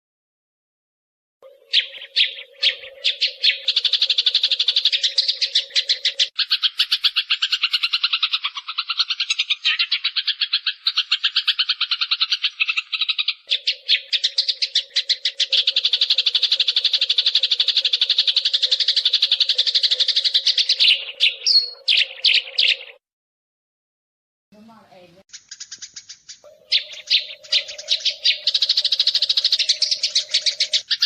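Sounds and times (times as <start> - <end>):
sparrows chirping rapidly: 1.4 - 23.0, 24.6 - 31.0.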